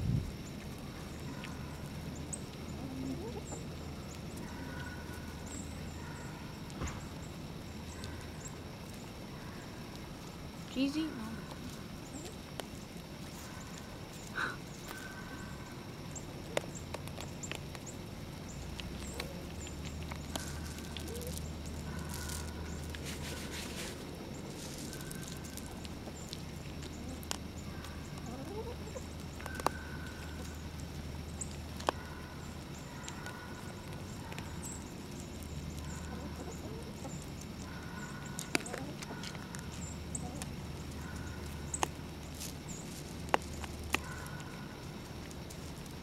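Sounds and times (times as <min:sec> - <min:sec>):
rustling in dry leaves: 0:00.0 - 0:46.0
steady low hum: 0:00.0 - 0:46.0
deer crunching corn: 0:00.6 - 0:46.0.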